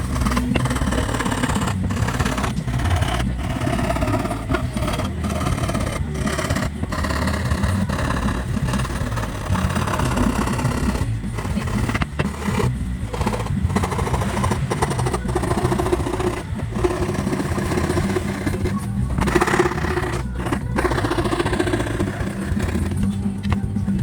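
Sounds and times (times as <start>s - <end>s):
hand saw cutting plywood: 0.0s - 23.2s
steady low rumble: 0.0s - 24.0s.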